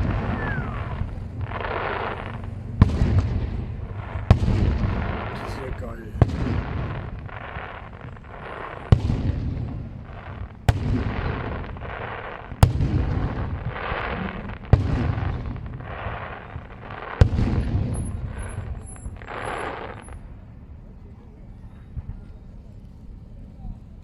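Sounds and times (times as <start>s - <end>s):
firework shells bursting: 0.0s - 20.2s.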